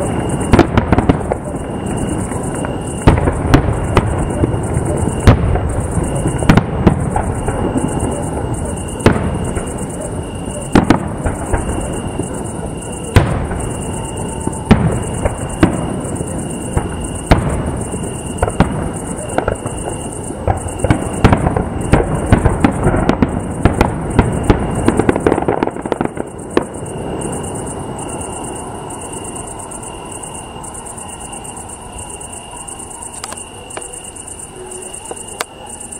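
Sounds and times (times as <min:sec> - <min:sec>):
crickets chirping: 0:00.0 - 0:35.9
fireworks bangs and crackling: 0:00.0 - 0:35.9.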